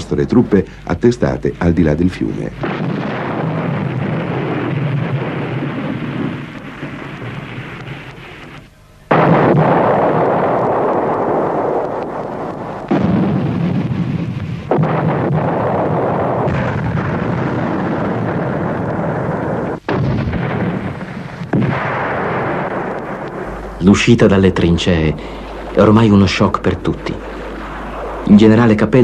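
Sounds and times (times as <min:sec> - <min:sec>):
artillery shell blasts: 0:02.1 - 0:29.0
rolling rumble: 0:02.5 - 0:29.0.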